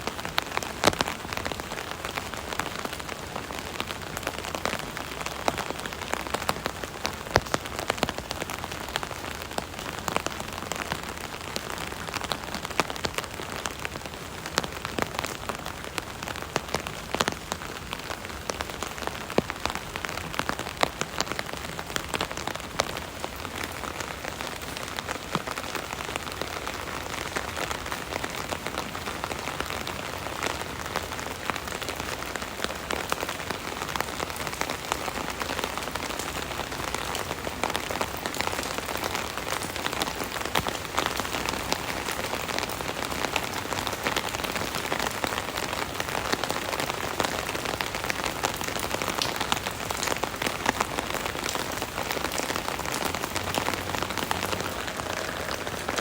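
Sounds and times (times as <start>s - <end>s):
rain pattering on an umbrella: 0.0s - 56.0s.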